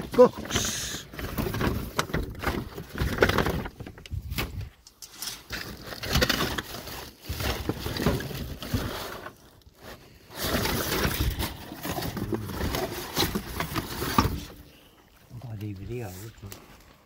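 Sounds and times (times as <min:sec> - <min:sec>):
plastic bags and cardboard rustling: 0:00.0 - 0:17.0.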